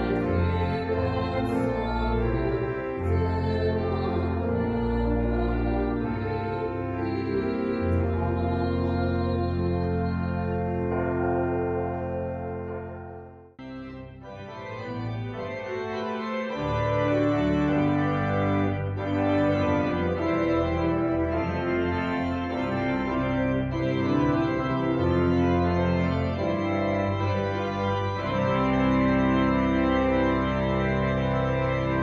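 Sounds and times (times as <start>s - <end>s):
organ chords: 0.0s - 32.0s.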